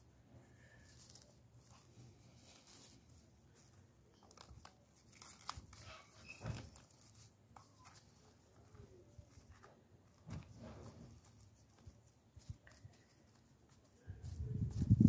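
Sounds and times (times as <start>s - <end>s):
cling film crinkling: 0.6s - 15.0s.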